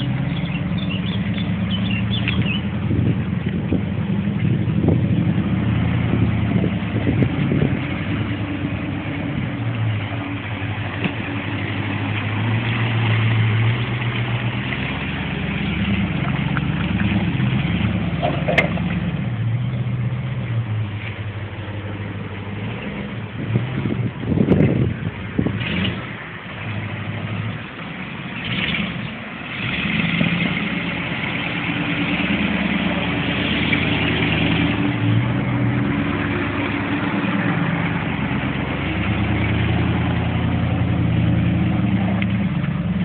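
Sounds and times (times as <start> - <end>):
car engine at low revs: 0.0 - 43.0.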